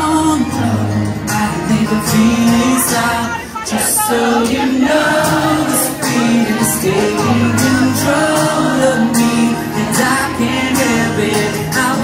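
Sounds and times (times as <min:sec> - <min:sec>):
acoustic guitar: 0:00.0 - 0:12.0
man singing: 0:00.0 - 0:12.0.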